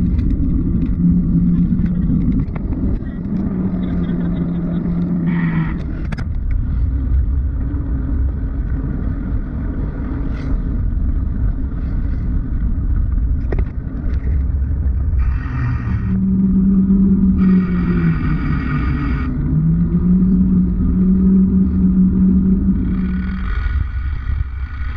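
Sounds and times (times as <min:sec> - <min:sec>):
passing traffic engine drone: 0:00.0 - 0:13.2, 0:14.6 - 0:24.9
muffled wind and road noise: 0:00.0 - 0:24.9.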